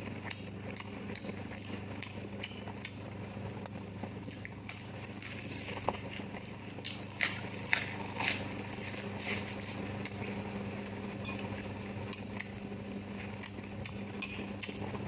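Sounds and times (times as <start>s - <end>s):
person eating with crunches: 0.0s - 15.0s
steady low hum: 0.0s - 15.0s.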